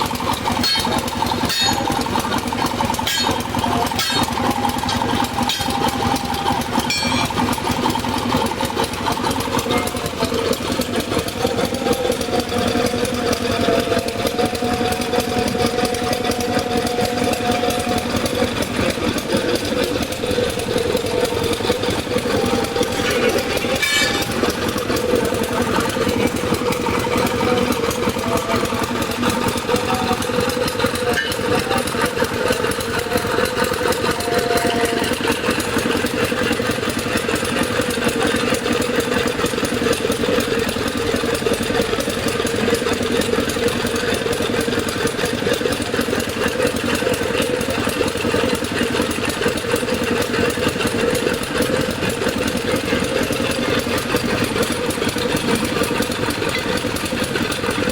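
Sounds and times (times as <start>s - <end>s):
engine running steadily: 0.0s - 57.9s.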